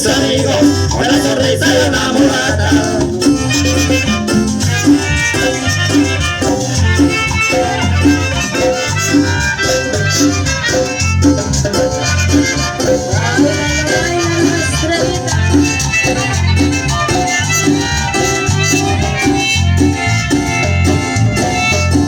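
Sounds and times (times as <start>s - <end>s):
live band playing latin dance music: 0.0s - 22.0s.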